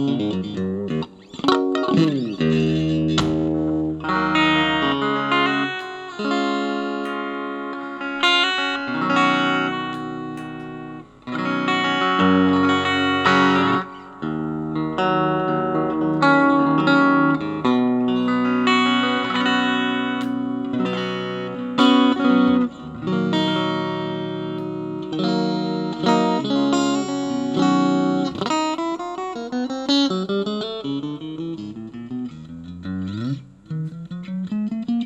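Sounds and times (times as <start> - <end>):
electric guitar chords and notes: 0.0 - 35.0.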